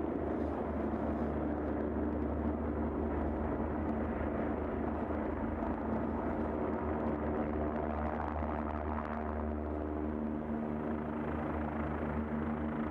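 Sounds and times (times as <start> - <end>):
helicopter rotor and engine drone: 0.0 - 12.9.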